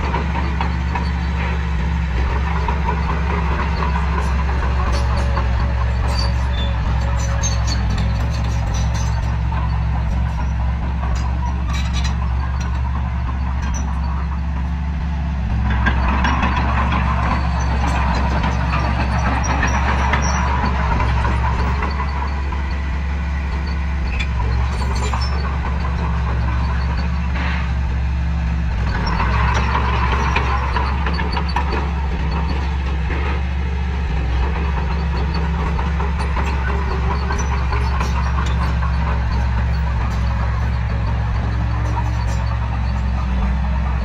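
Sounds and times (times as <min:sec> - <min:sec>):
diesel engine of heavy machinery: 0:00.0 - 0:44.0.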